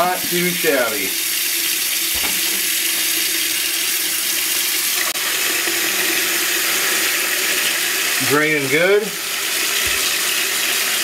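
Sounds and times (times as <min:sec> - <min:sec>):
faucet running into metal sink: 0:00.0 - 0:11.0.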